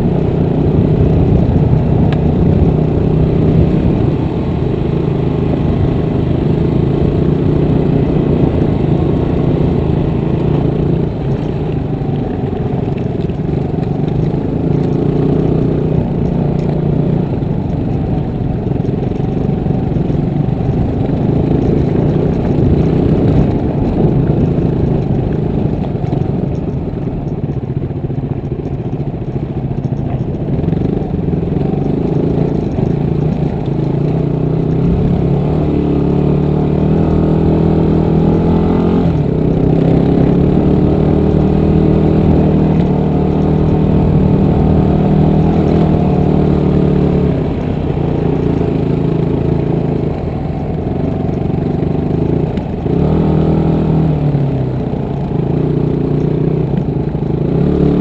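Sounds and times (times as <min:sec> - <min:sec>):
clatter over stony ground: 0:00.0 - 0:58.0
motorcycle engine running: 0:00.0 - 0:58.0.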